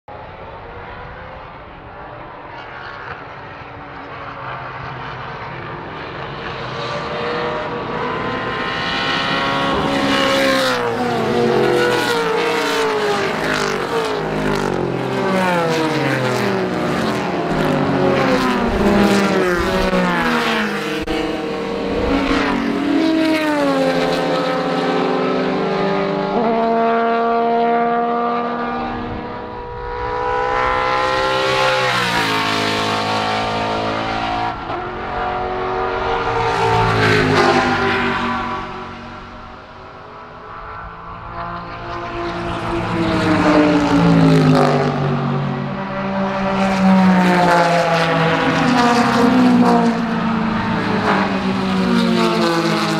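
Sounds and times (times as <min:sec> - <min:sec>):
race car engines passing: 0:00.1 - 0:52.9.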